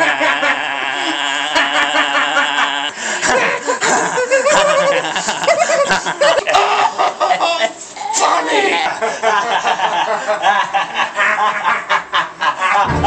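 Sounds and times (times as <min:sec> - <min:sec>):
young man laughing: 0:00.0 - 0:07.7, 0:09.0 - 0:13.0.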